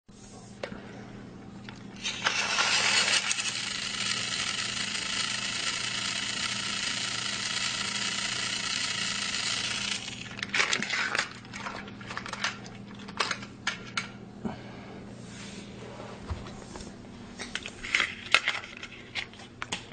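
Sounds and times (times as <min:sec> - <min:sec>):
low steady hum: 0:00.1 - 0:19.9.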